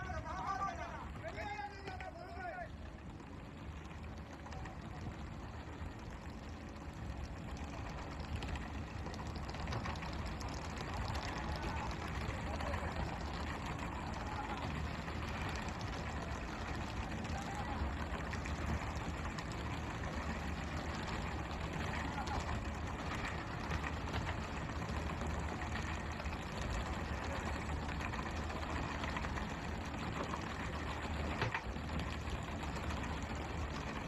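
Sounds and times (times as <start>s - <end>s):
boat engine rumble: 0.0s - 34.0s.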